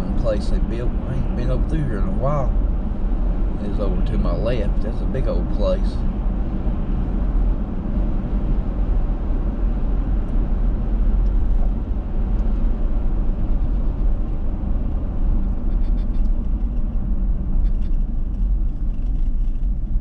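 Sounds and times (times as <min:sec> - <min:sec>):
car interior road rumble: 0:00.0 - 0:20.0.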